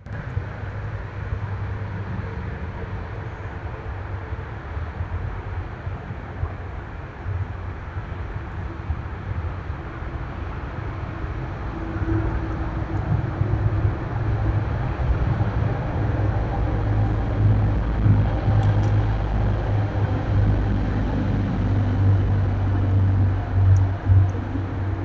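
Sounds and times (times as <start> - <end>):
low rumble of road traffic: 0.0 - 25.0.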